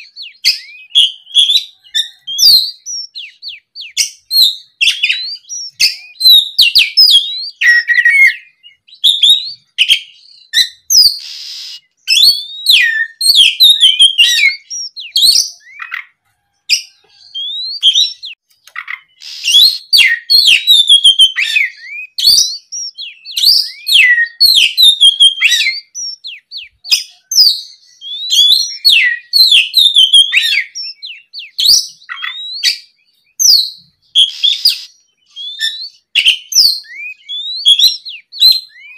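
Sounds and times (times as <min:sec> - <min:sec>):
bird singing whistles and trills: 0:00.0 - 0:16.1, 0:16.7 - 0:38.9.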